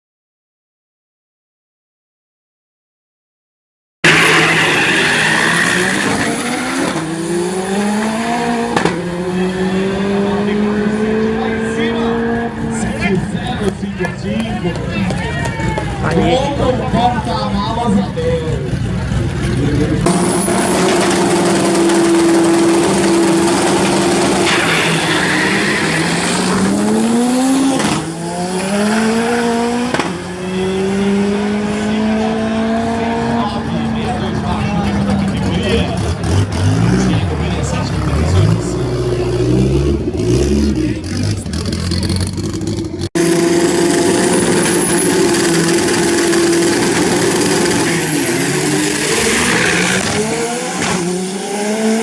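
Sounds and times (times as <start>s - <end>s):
drag car engine revving: 4.0s - 14.5s, 16.0s - 52.0s.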